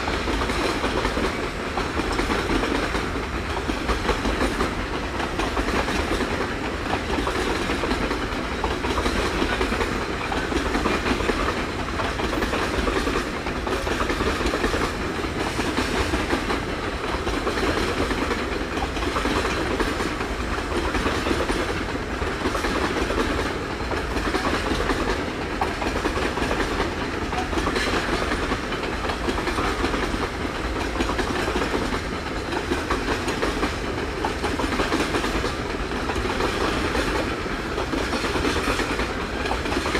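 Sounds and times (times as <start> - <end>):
steel wheels rumbling on rails: 0.0 - 39.9
wheels clacking over rail joints: 0.0 - 39.9.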